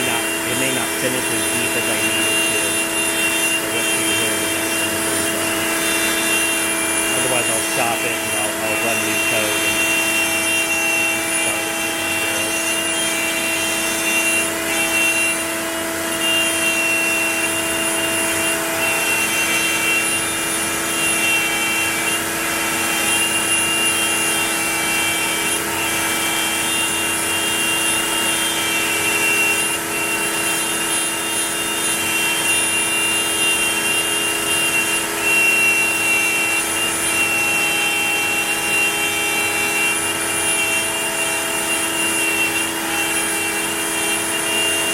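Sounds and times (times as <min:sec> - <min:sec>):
router spindle whining: 0:00.0 - 0:44.9.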